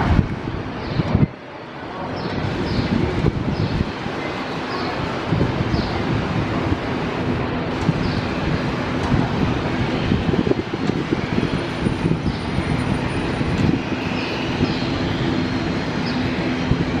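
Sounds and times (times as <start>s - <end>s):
jet engine rumbling: 0.0s - 17.0s.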